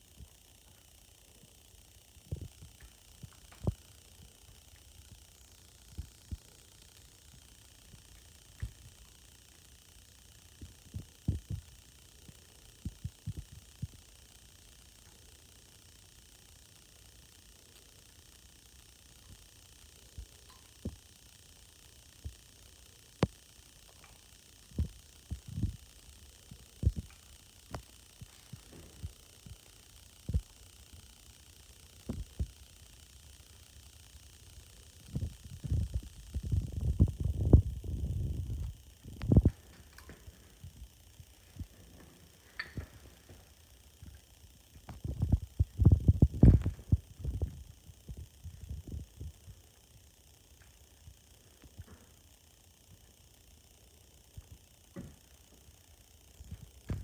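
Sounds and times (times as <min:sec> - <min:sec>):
sharp clicks: 0:00.1 - 0:57.0.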